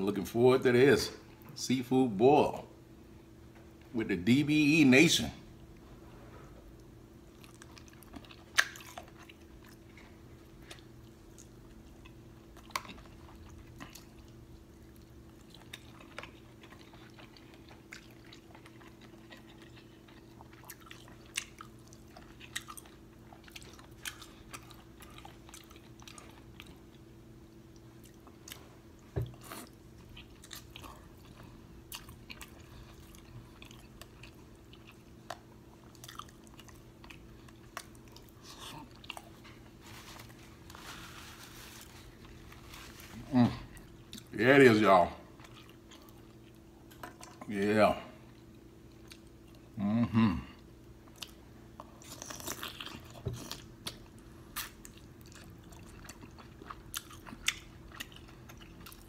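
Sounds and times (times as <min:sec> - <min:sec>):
faint steady hum: 0:00.0 - 0:59.0
person chewing wetly: 0:06.7 - 0:40.8, 0:41.8 - 0:44.3, 0:45.3 - 0:47.5, 0:48.2 - 0:49.8, 0:50.6 - 0:59.0.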